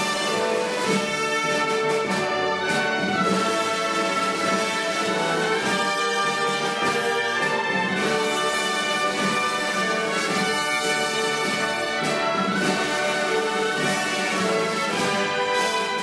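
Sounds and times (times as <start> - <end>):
concert band playing: 0.0 - 16.0.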